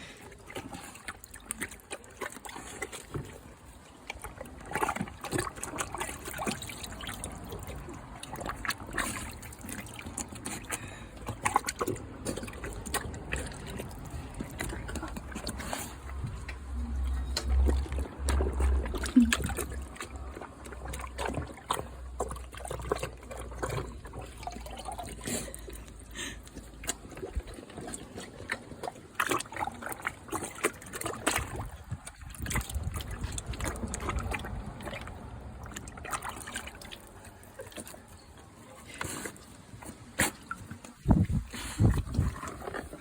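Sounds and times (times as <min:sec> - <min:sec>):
water splashing: 0:00.0 - 0:43.0.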